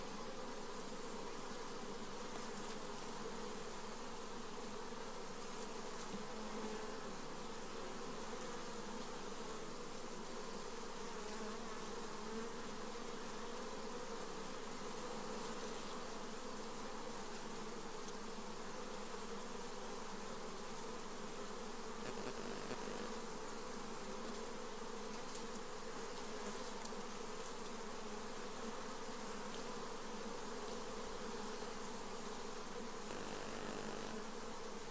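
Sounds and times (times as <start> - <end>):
honey bees buzzing: 0.0 - 34.9.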